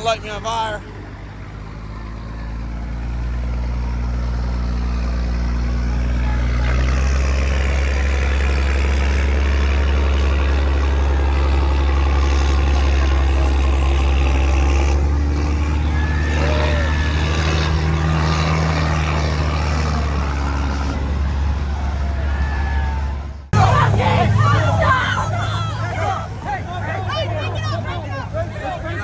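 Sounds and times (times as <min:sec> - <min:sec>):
vehicle engine revving high: 0:00.0 - 0:29.0
harsh rushing noise: 0:05.7 - 0:29.0.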